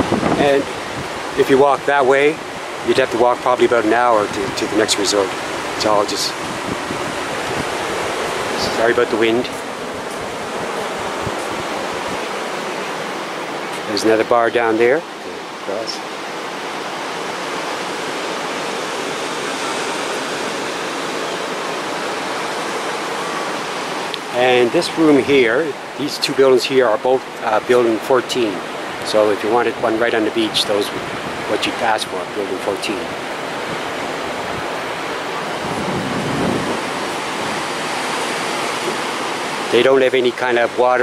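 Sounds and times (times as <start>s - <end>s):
ocean surf washing onto beach: 0.0s - 41.0s
wind blowing across microphone: 0.0s - 41.0s.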